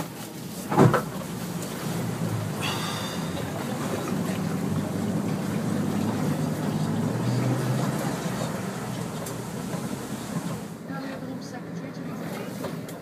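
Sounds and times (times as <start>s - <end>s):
vehicle rumbling over rough ground: 0.0s - 13.0s
diesel engine droning: 0.6s - 12.0s.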